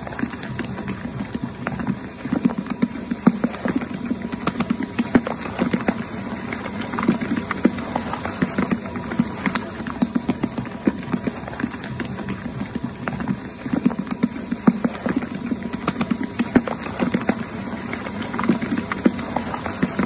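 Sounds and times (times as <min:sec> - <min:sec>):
dough slapping against bowl: 0:00.0 - 0:20.0.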